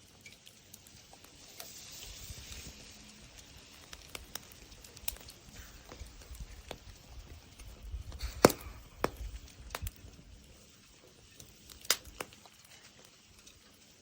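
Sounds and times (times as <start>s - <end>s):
wood fire popping and cracking: 0.0s - 14.0s.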